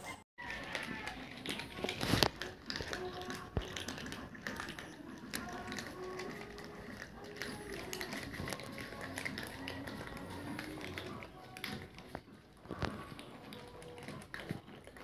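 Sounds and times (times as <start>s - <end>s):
cats crunching dry kibble: 0.4s - 15.0s.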